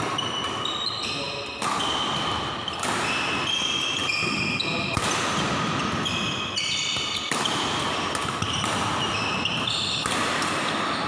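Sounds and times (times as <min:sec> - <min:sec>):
shoe squeaks on court floor: 0:00.0 - 0:05.0, 0:05.8 - 0:10.1
racket hitting shuttlecock: 0:00.0 - 0:11.0.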